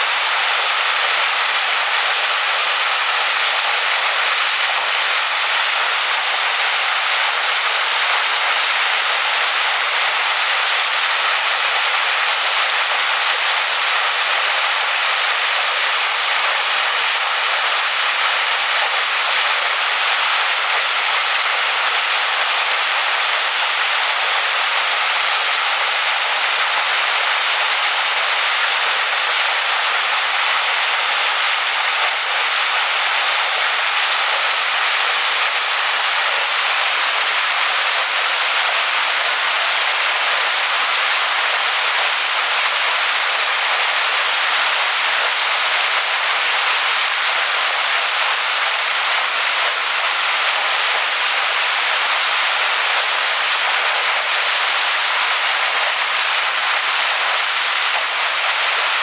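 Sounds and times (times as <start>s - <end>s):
waterfall splashing onto rocks: 0.0s - 59.0s.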